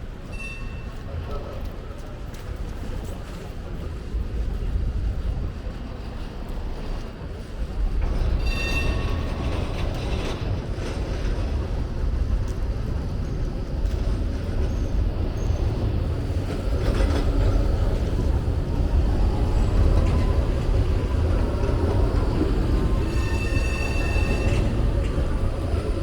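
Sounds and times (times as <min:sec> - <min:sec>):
rail vehicle rumbling: 0:00.0 - 0:26.0.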